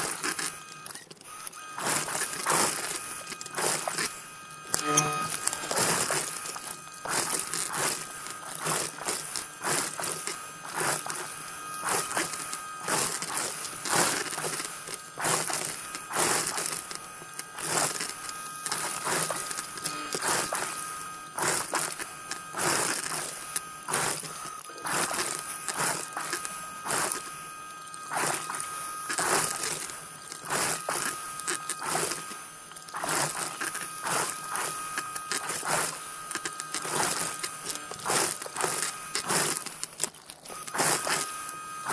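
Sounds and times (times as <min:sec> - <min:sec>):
high motor whine: 0:00.0 - 0:41.9.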